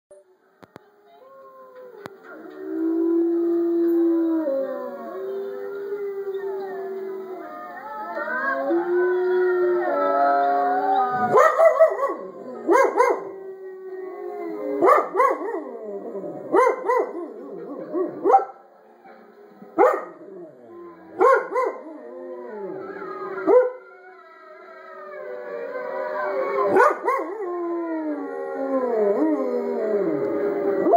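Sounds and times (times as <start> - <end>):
wolves howling through tv speaker: 0.2 - 30.9
dog howling and yelping: 1.7 - 18.4, 19.8 - 30.9.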